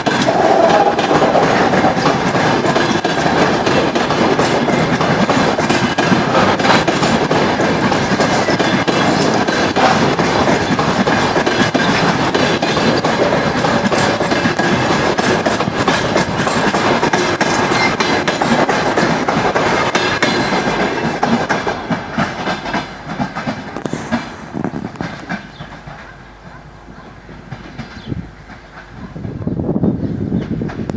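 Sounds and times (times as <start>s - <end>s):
train wheels clattering: 0.0s - 30.9s.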